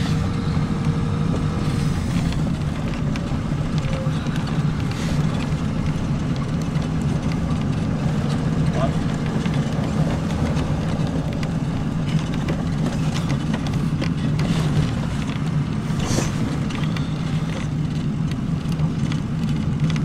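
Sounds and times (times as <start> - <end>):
vehicle engine hum from cabin: 0.0 - 20.0.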